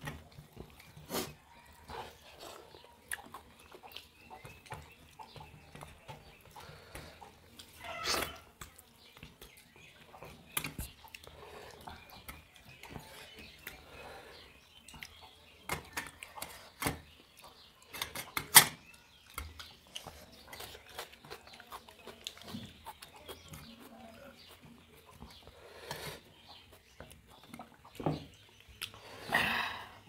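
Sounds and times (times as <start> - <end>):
chewing: 0.0 - 30.0.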